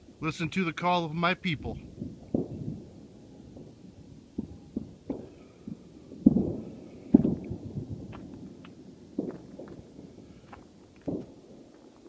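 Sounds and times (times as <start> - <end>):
distant fireworks bangs: 1.5 - 12.0.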